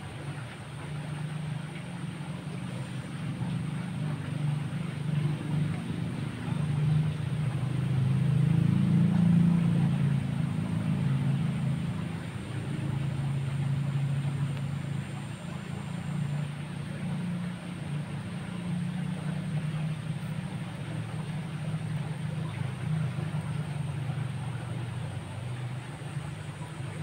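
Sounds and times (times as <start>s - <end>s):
low engine drone: 0.0s - 27.0s.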